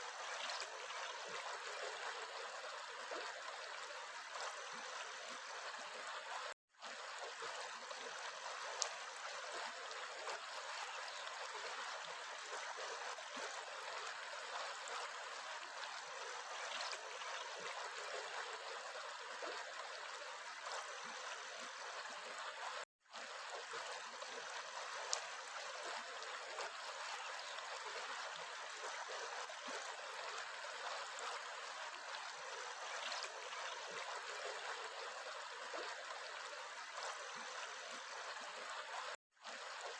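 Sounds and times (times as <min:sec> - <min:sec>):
small stream running: 0:00.0 - 0:39.9.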